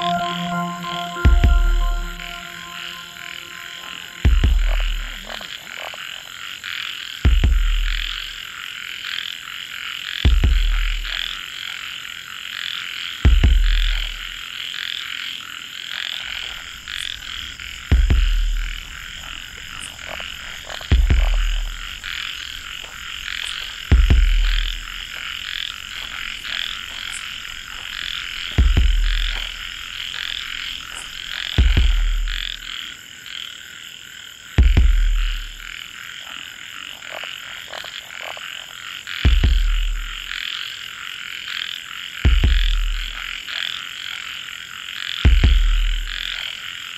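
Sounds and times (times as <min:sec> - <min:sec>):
high trilling frog and insect chorus: 0:00.0 - 0:46.9
loud deep frog croak: 0:00.0 - 0:46.9.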